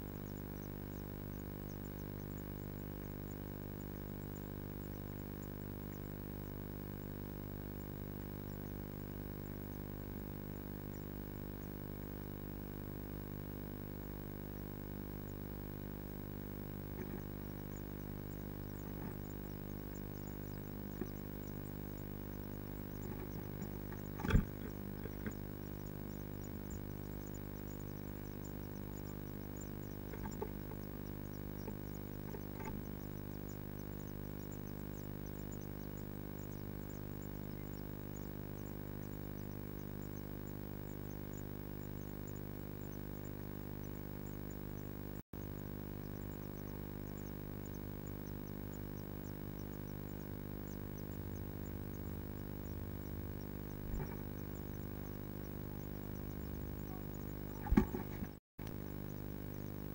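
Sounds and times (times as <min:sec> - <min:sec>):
electrical hum: 0:00.0 - 0:59.9
faint high ticks: 0:00.0 - 0:59.9.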